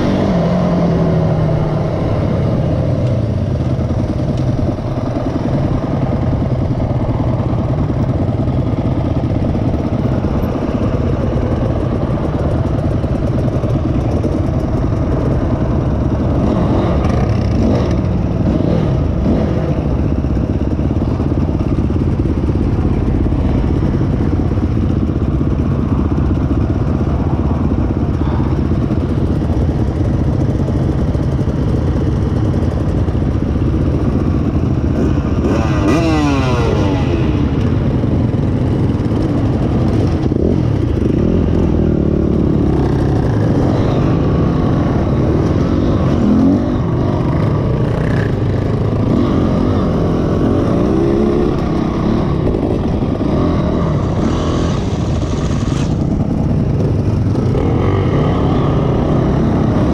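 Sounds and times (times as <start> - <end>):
motorbike engines idling: 0.0 - 59.9
motorbike revving: 0.0 - 59.9.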